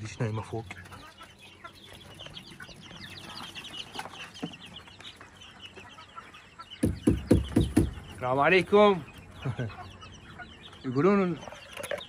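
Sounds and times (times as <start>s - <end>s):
poultry chirping: 0.0s - 12.0s.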